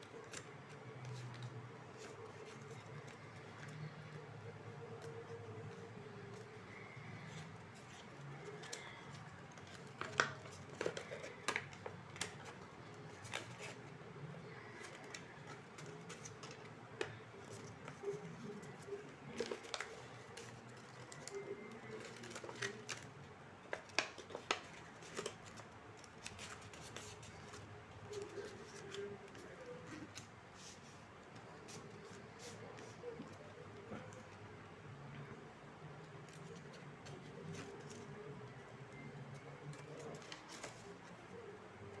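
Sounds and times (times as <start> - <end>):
paper rustling: 0.0 - 34.6, 35.2 - 42.0.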